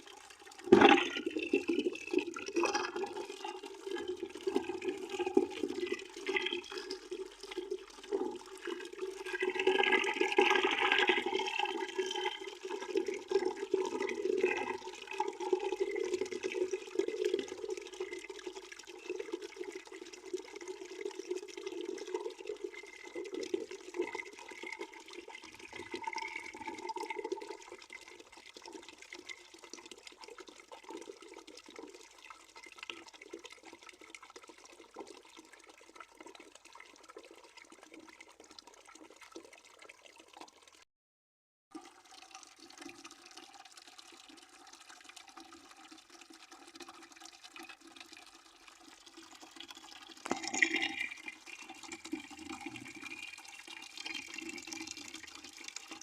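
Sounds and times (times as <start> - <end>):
water running into a bucket: 0.0 - 40.8, 41.7 - 56.0.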